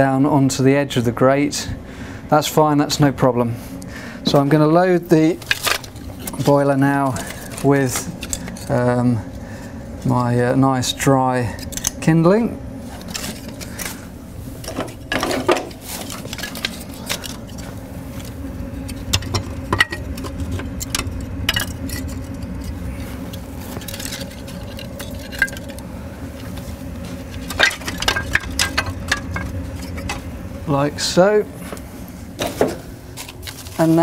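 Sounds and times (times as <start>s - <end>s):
fan humming: 0.0s - 34.0s.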